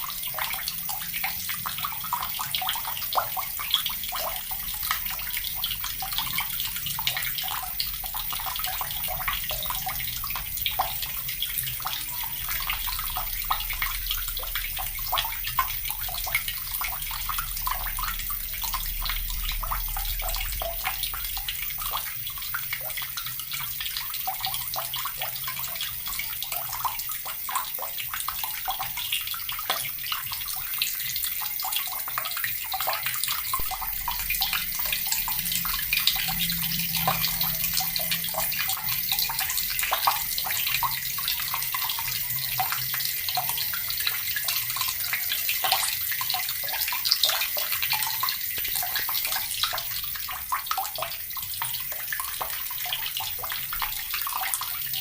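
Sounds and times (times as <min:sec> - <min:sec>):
tap water running and splashing: 0:00.0 - 0:55.0.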